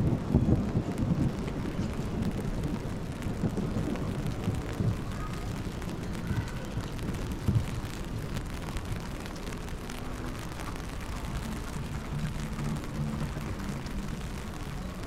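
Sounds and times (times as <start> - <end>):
traffic rumble on wet pavement: 0.0 - 15.0.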